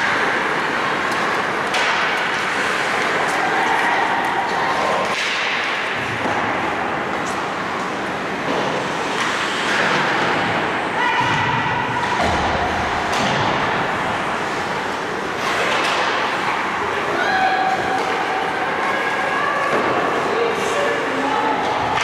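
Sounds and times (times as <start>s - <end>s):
ice hockey play: 0.0s - 22.0s.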